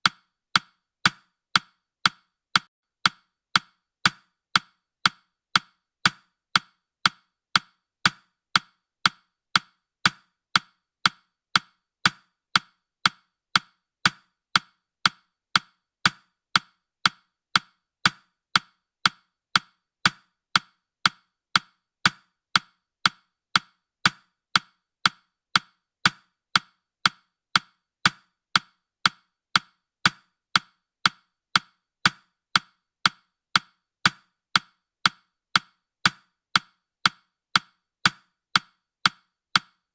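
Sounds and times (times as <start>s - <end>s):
woody clock ticks: 0.0s - 39.9s.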